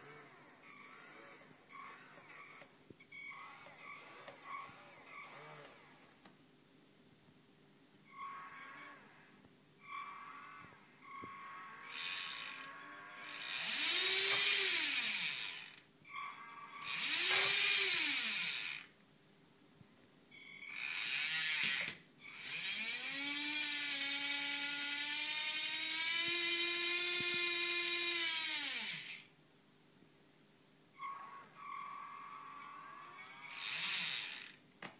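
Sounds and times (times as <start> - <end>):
small electric motor whining: 0.0 - 6.2, 8.2 - 18.9, 20.4 - 29.3, 31.0 - 34.6.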